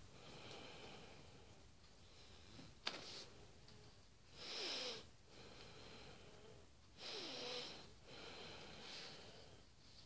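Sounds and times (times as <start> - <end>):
nasal breathing with wheeze: 0.0 - 3.6, 4.3 - 10.0.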